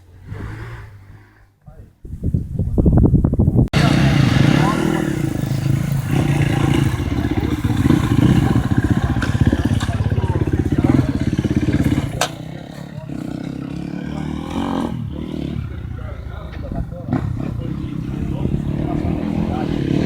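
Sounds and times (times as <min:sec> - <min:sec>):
atv engine running: 0:03.7 - 0:20.0.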